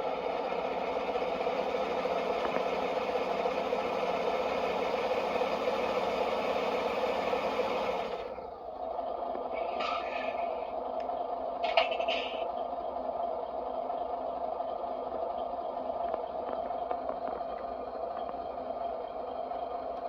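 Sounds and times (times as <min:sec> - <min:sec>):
simulated truck engine from small speaker: 0:00.0 - 0:20.0.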